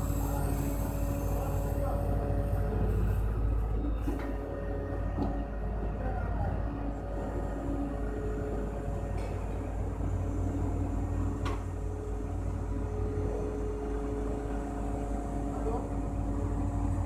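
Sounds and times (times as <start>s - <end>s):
crane engine rumble: 0.0s - 17.0s.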